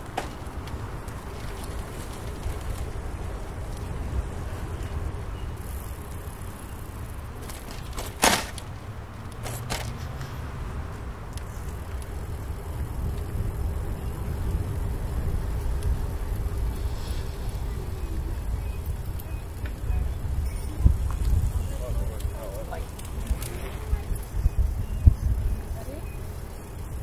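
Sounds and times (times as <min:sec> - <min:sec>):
wind and tyre rumble: 0:00.0 - 0:27.0.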